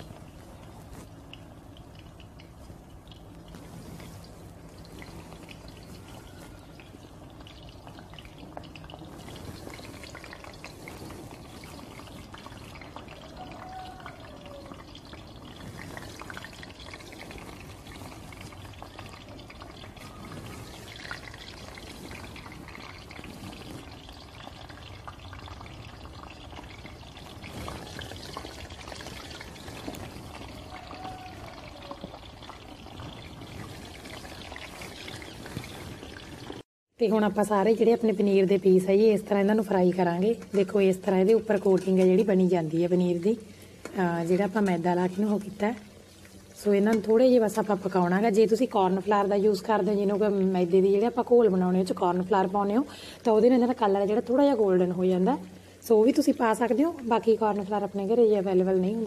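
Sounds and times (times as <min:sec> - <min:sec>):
food sizzling in hot oil: 0:00.0 - 0:36.6, 0:37.7 - 0:59.0.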